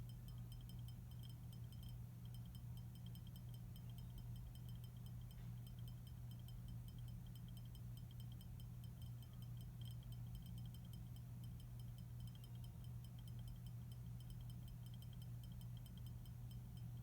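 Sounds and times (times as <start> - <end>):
light bulb electrical hum: 0.0 - 17.0
rapid high-pitched ticking: 0.0 - 17.0.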